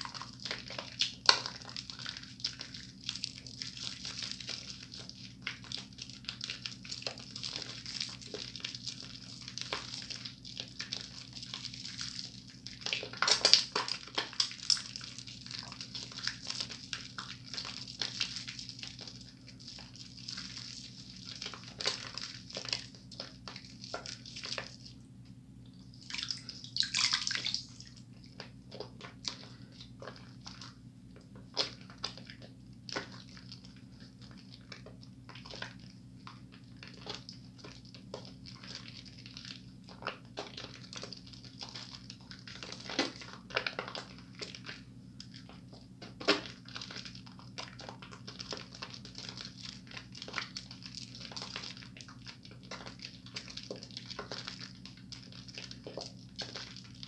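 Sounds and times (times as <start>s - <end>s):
hands squelching soap lather: 0.0s - 25.0s, 25.8s - 57.0s.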